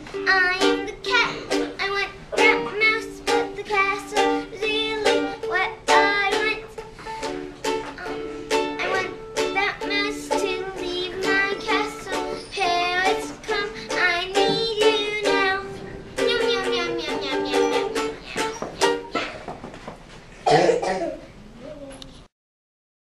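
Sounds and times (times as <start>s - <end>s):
girl singing with vibrato: 0.0s - 19.2s
plucked or strummed chords: 0.0s - 19.2s.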